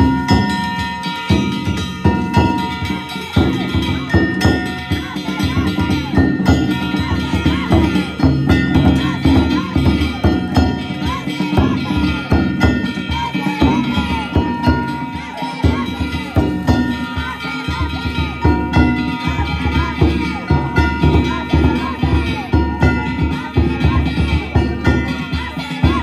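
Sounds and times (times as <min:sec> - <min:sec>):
drum beats: 0:00.0 - 0:26.0
voices calling out: 0:00.0 - 0:26.0.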